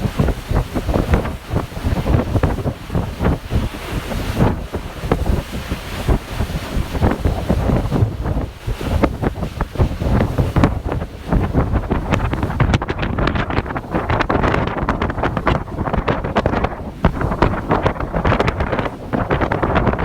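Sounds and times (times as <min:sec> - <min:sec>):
rushing water: 0:00.0 - 0:20.0
wind buffeting microphone: 0:00.0 - 0:20.0.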